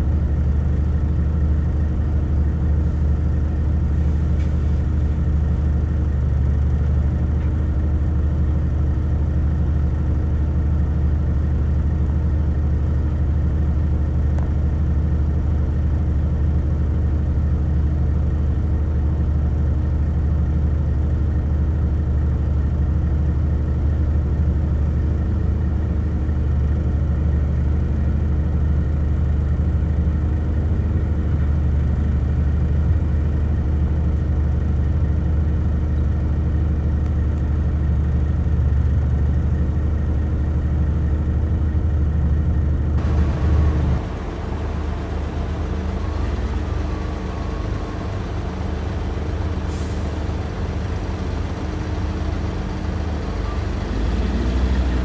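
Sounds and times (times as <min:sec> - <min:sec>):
truck engine droning: 0:00.0 - 0:55.0
wheel loader diesel engine: 0:00.0 - 0:55.0.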